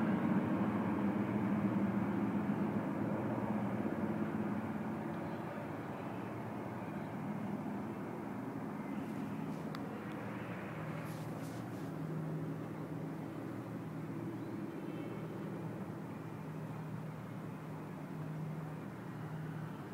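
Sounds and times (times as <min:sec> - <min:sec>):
propeller warplanes droning: 0:00.0 - 0:19.9.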